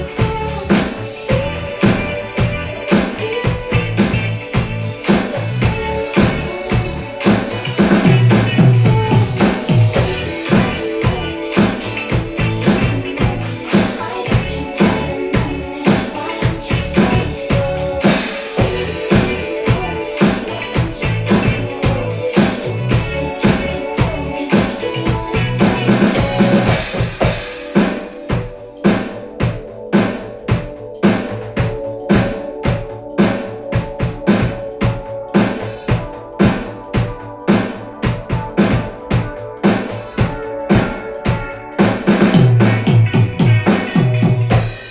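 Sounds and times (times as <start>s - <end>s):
electronic drum kit: 0.0s - 44.9s
pop backing track: 0.0s - 44.9s.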